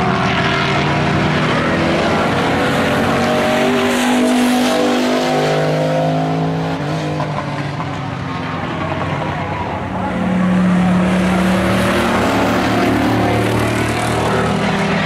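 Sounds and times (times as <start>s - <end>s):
racing truck engines: 0.0s - 15.0s.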